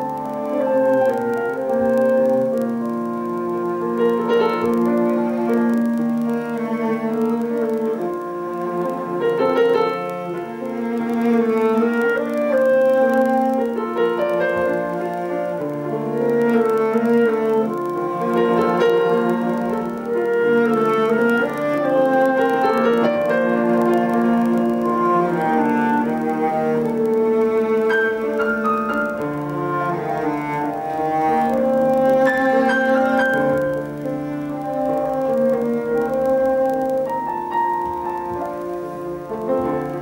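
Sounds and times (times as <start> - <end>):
long held melody notes: 0.0 - 40.0
piano: 0.0 - 40.0.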